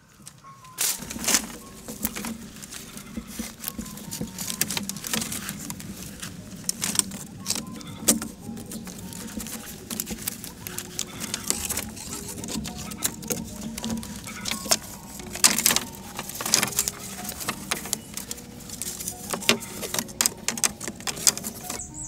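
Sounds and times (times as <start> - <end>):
bamboo poles knocking and rattling: 0.0 - 22.0.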